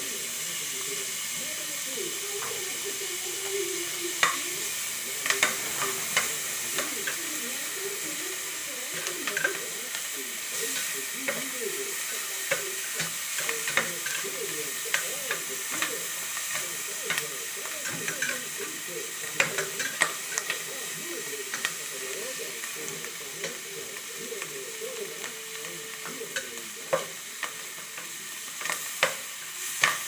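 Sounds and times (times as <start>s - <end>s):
onion sizzling in a pan: 0.0s - 30.0s.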